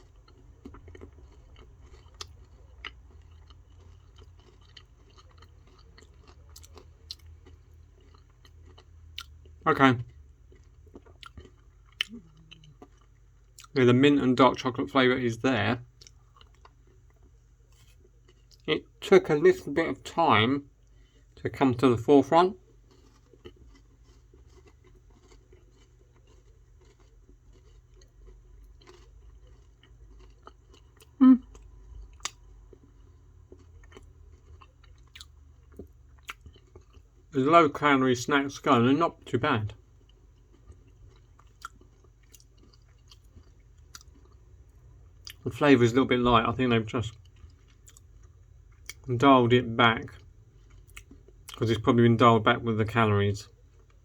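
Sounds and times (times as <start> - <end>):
person chewing crunchy snack: 0.0 - 13.8, 15.8 - 37.8, 38.6 - 49.1, 49.8 - 51.8.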